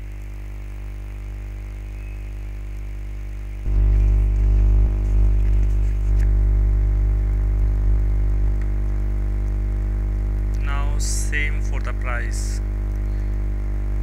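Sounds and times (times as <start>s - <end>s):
mains hum: 0.0s - 14.0s.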